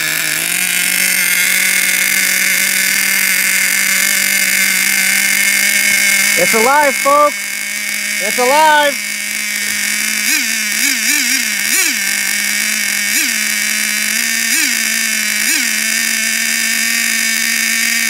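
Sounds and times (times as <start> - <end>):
model engine revving and idling: 0.0 - 18.0.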